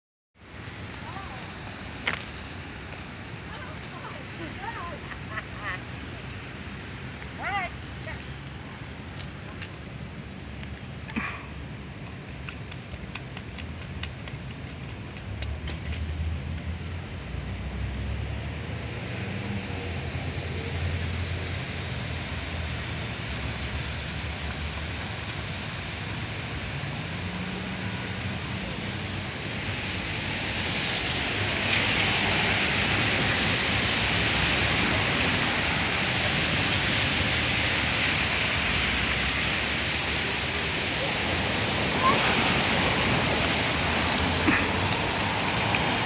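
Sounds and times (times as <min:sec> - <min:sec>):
rain falling: 0:00.4 - 0:46.0.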